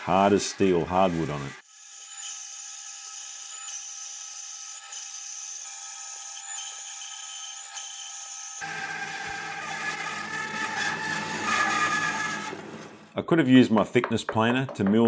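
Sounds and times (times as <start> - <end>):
bandsaw cutting wood: 0.0 - 13.1.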